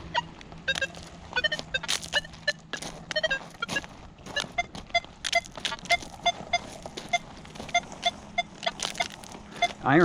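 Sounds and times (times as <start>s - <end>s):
metal detector beeping: 0.0s - 10.0s.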